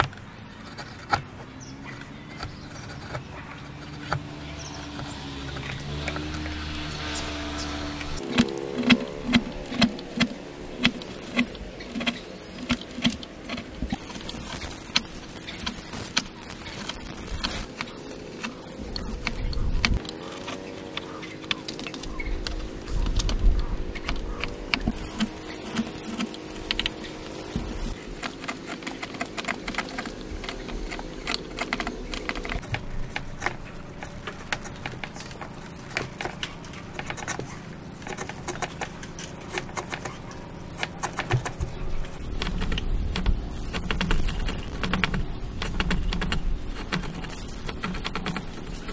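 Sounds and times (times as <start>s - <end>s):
chisel paring and chopping wood: 0.0s - 41.8s
low steady hum: 0.0s - 48.9s.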